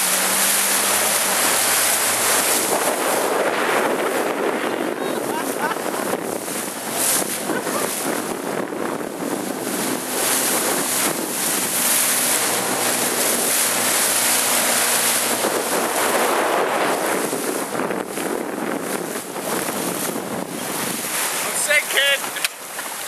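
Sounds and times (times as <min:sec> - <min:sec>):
choppy water splashing: 0:00.0 - 0:23.0
wind buffeting microphone: 0:00.0 - 0:23.0.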